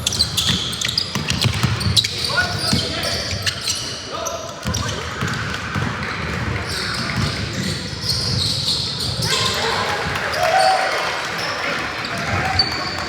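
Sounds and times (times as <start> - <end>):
voices and chatter: 1.8 - 13.0.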